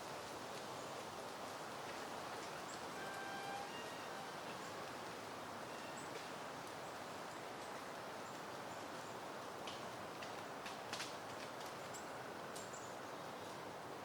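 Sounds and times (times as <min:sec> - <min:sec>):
wind rustling through plants: 0:00.0 - 0:14.0.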